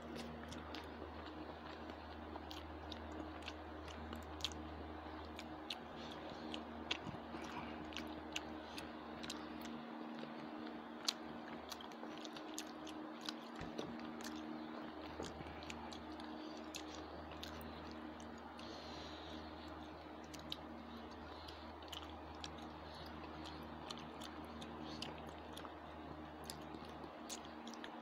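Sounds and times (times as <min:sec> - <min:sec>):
chewing with wet mouth clicks: 0:00.0 - 0:28.0
steady low hum: 0:00.0 - 0:28.0.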